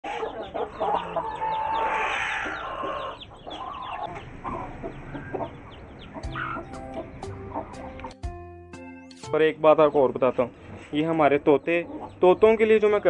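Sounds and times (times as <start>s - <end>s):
chicks peeping: 0.0s - 8.2s, 9.6s - 13.0s
hen clucking: 0.0s - 8.2s, 9.7s - 13.0s.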